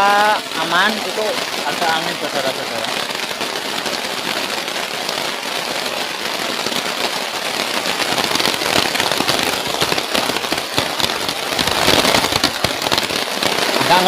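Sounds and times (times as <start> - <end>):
heavy rain on plastic tarp: 0.0 - 14.0.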